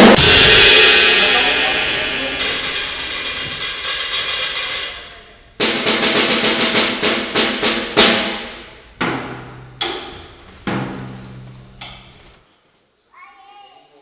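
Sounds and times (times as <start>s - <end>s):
cymbal crash: 0.0s - 11.4s
cymbal ringing: 0.0s - 12.2s
drum hits: 0.0s - 12.3s.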